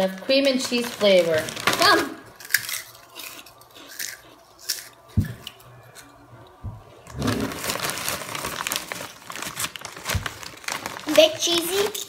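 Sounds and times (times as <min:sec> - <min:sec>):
plastic bag crinkling: 0:00.0 - 0:05.6, 0:07.0 - 0:12.0
snack sticks crunching: 0:00.8 - 0:11.4.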